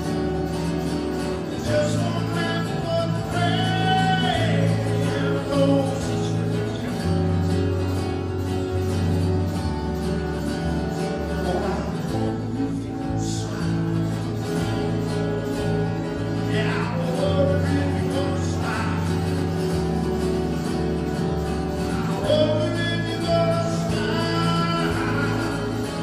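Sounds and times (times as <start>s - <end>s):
man singing: 0.0s - 26.0s
strummed acoustic guitar: 0.0s - 26.0s.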